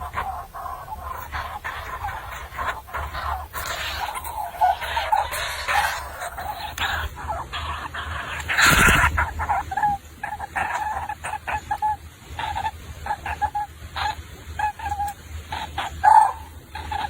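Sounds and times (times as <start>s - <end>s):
bird calls: 0.0s - 17.0s.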